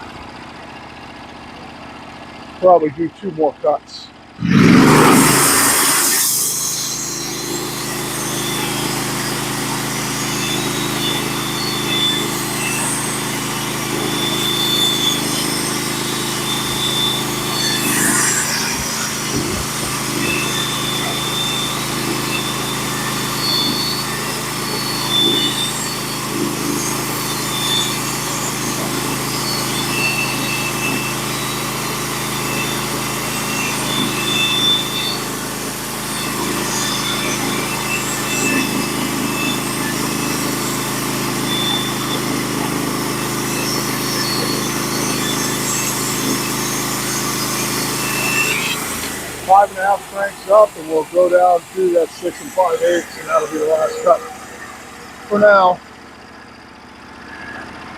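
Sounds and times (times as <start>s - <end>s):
sawmill engine running: 0.0s - 57.9s
band saw cutting wood: 4.4s - 56.1s.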